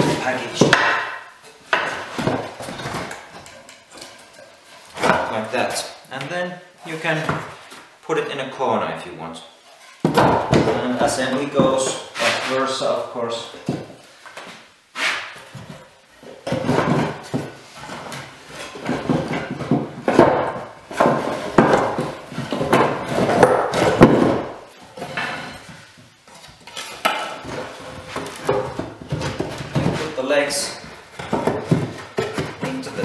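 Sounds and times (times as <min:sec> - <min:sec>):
wooden boards knocking and clattering: 0:00.0 - 0:05.5, 0:07.2 - 0:07.8, 0:09.8 - 0:12.5, 0:13.6 - 0:33.0
wood scraping: 0:00.0 - 0:05.9, 0:09.6 - 0:33.0.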